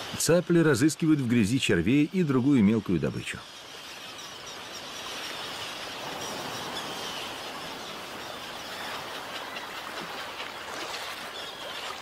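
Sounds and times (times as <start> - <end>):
wetland ambience hiss: 0.0 - 12.0
many birds chattering: 0.2 - 12.0.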